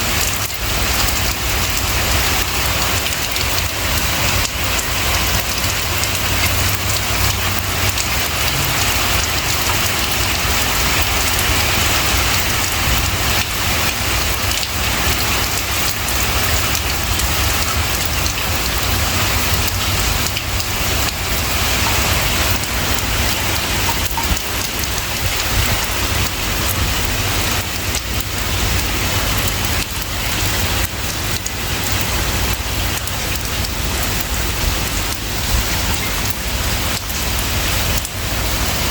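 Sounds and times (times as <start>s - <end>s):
rain pouring on a surface: 0.0s - 38.9s.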